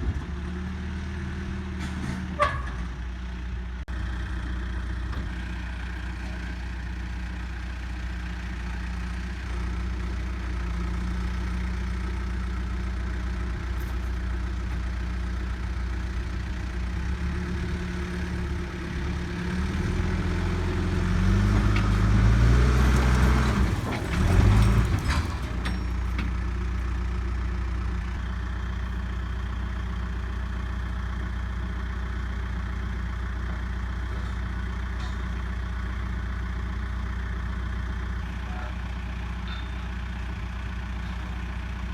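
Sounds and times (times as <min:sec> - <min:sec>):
diesel engine idling and revving: 0:00.0 - 0:41.9.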